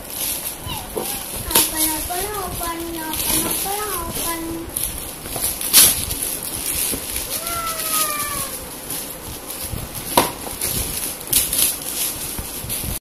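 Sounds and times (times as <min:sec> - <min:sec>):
gift wrap rustling: 0:00.0 - 0:13.0.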